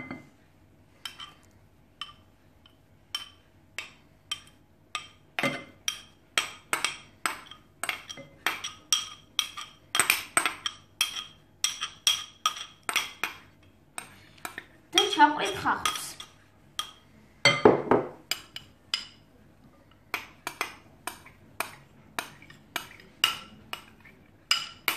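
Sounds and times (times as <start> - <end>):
metal spoon clinking bowl: 1.0 - 17.7, 18.3 - 19.3, 20.1 - 24.9.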